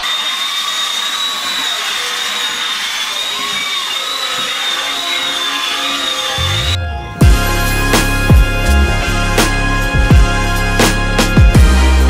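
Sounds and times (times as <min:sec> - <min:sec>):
high-speed electric motor whining: 0:00.0 - 0:10.7.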